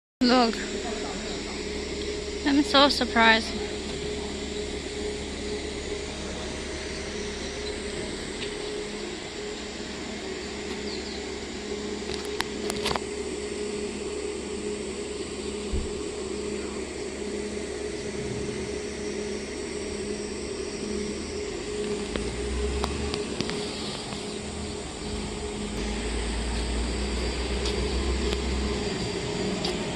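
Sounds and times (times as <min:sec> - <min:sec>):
machinery hum: 0:00.2 - 0:29.9.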